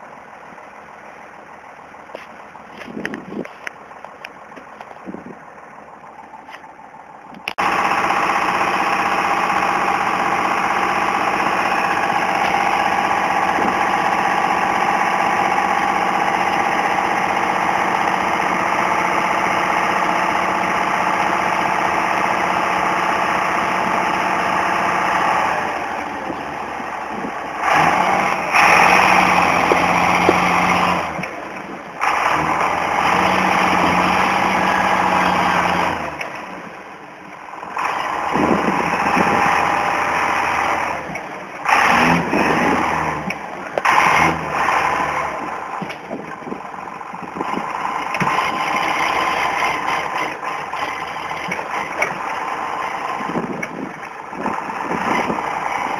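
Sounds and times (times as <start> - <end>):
tractor engine running: 0.0 - 55.9
engine knocks: 2.1 - 34.6, 37.6 - 39.7, 40.6 - 55.9.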